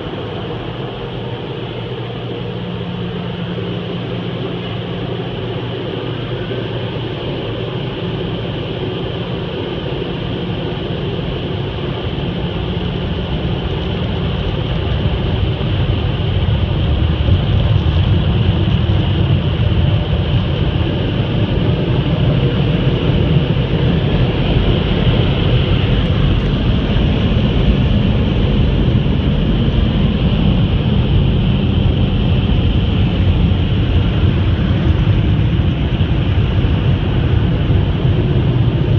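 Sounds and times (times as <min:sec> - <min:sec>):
car wash machinery running: 0:00.0 - 0:38.9.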